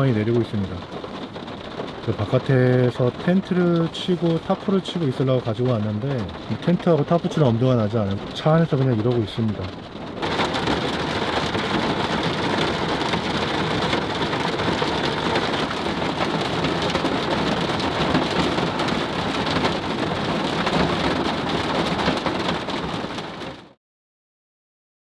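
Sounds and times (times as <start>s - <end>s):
heavy rain pouring: 0.0s - 23.8s.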